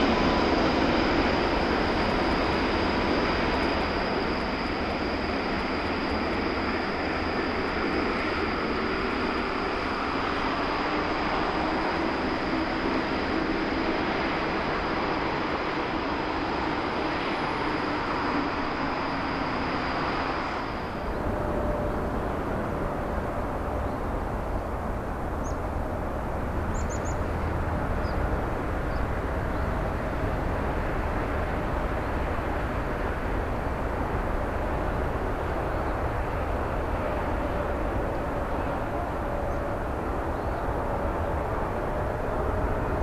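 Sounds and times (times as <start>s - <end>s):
jet engine rumble: 0.0s - 43.0s.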